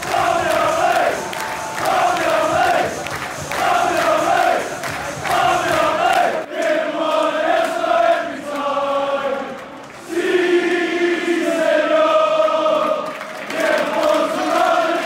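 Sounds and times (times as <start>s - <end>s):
football crowd chanting: 0.0s - 15.0s.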